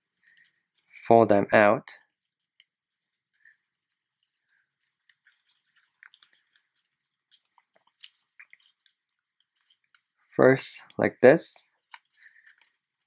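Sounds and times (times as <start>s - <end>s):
paper crinkling and crackling: 0.0s - 1.1s, 1.9s - 10.9s, 11.7s - 13.0s.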